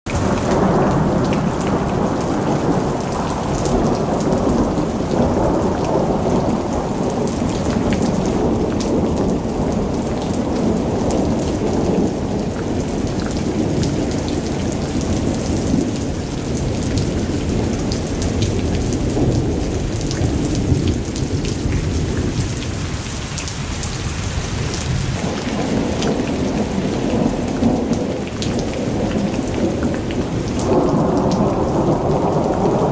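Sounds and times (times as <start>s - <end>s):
heavy rain falling: 0.1s - 32.9s.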